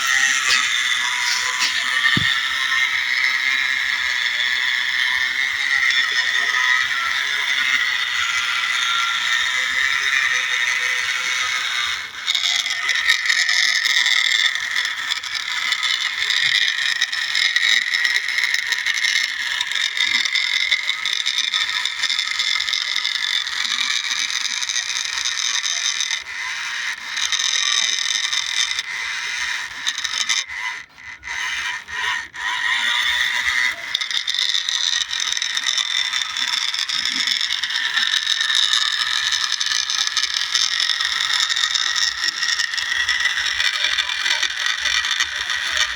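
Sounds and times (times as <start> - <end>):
toy tractor electric motor whining: 0.0 - 45.9.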